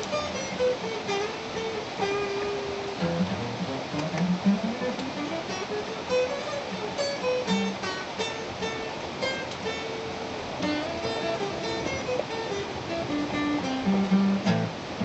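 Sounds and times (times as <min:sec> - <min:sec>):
guitar plucked melody: 0:00.0 - 0:15.0.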